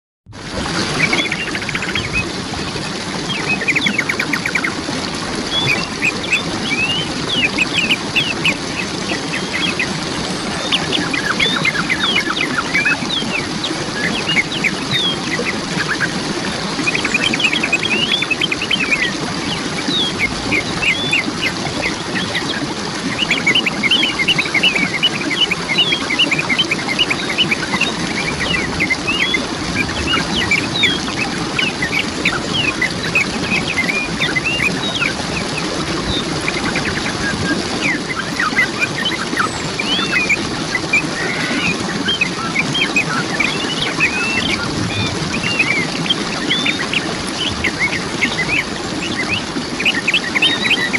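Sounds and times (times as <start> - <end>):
waterfall rushing: 0.4 - 50.9
birds chirping: 1.0 - 2.5, 3.3 - 4.8, 5.5 - 50.9.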